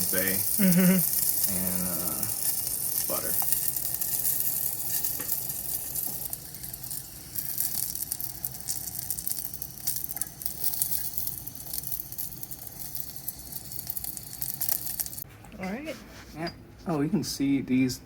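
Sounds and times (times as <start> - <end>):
insects sizzling in a pan: 0.0 - 15.2.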